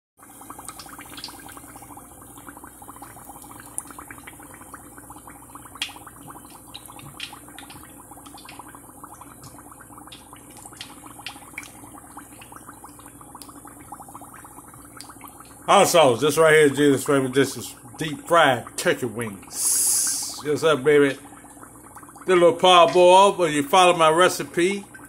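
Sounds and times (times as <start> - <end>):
deep frying sizzle and pops: 0.2 - 25.0.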